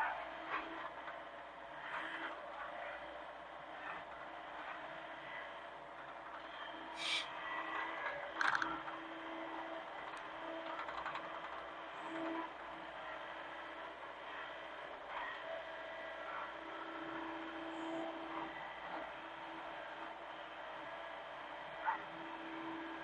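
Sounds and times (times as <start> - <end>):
mini excavator running: 0.0 - 23.0.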